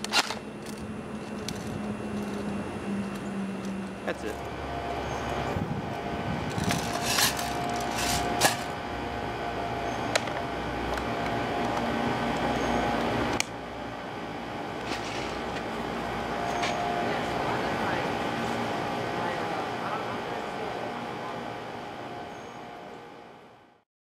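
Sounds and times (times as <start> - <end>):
steady background hum: 0.0 - 23.8.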